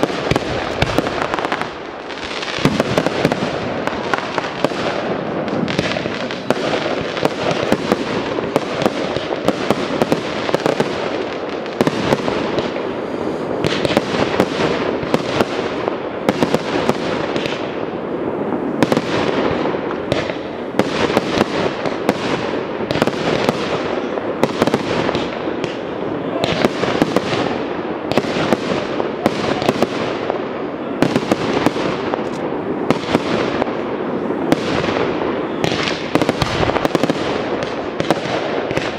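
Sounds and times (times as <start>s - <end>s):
fireworks bangs: 0.0s - 38.9s
steady continuous din: 0.0s - 38.9s.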